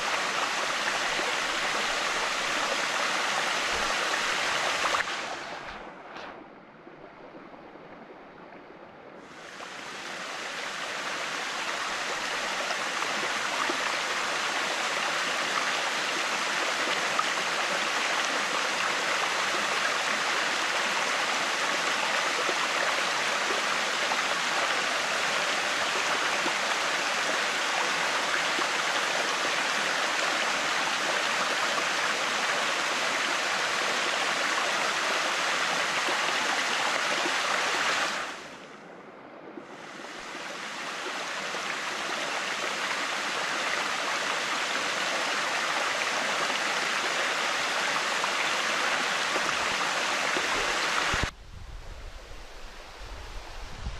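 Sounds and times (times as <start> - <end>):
river rushing over boulders: 0.0 - 6.1, 9.3 - 38.6, 39.8 - 51.4.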